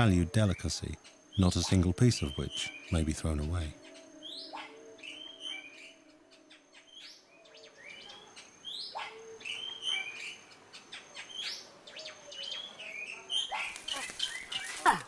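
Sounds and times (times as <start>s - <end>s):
faint steady high tone: 0.0s - 12.9s
birds chirping and whistling: 0.0s - 15.0s.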